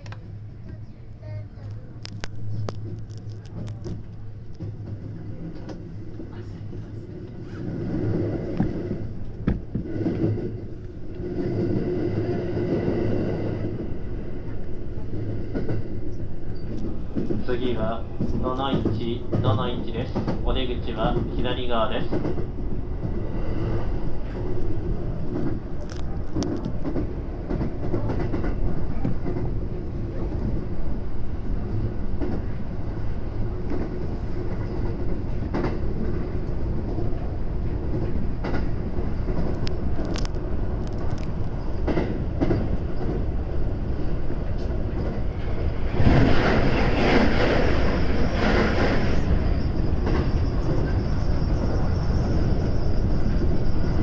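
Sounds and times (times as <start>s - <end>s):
passing train rushing: 0.0s - 54.0s
train cab rumble and hum: 0.0s - 54.0s.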